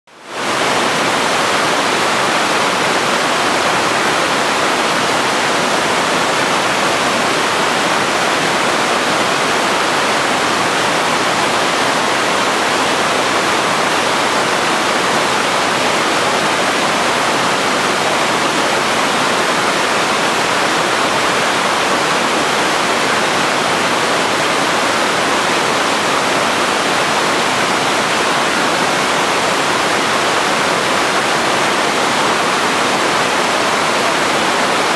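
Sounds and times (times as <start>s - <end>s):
river rapids rushing: 0.2s - 34.9s.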